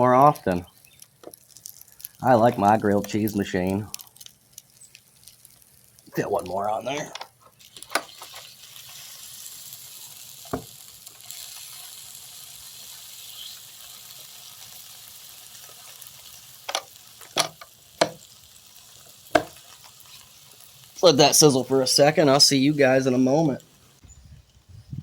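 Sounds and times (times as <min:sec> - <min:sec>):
food sizzling on a hot plate: 0:00.0 - 0:24.1.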